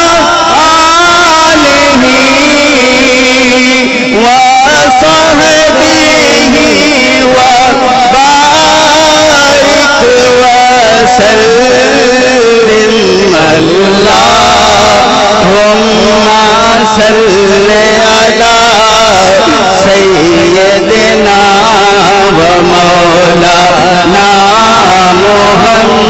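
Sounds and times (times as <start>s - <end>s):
man singing into a microphone: 0.0s - 26.0s.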